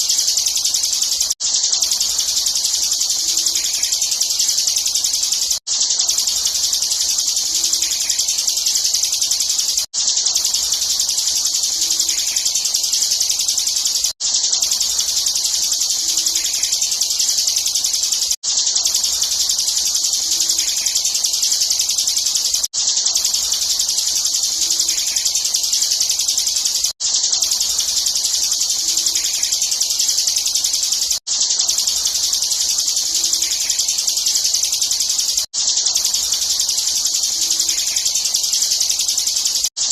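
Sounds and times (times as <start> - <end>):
bird singing in a high trill: 0.0 - 39.9.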